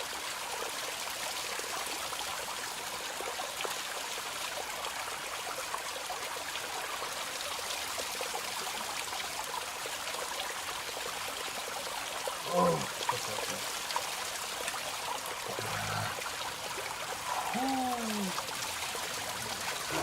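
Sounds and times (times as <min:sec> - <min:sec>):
small waterfall pouring and splashing: 0:00.0 - 0:20.0.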